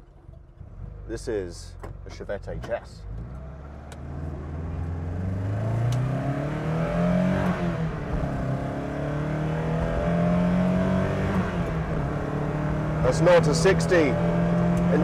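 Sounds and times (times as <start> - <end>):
car engine accelerating: 0.1 - 15.0.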